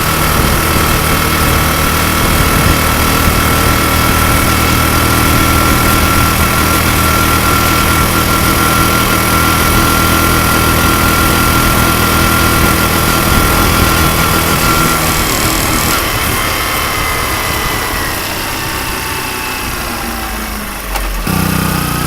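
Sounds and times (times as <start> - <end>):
high whine: 0.0 - 21.8
motorcycle engine running: 0.0 - 22.0.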